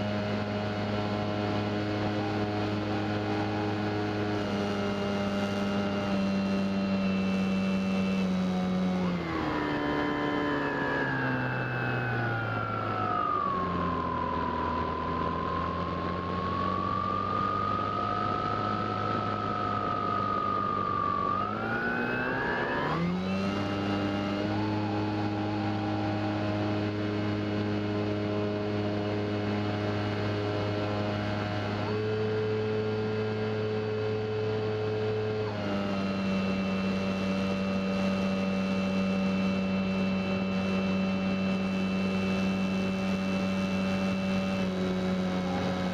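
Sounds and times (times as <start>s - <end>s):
electric motor and propeller whine: 0.0s - 45.9s.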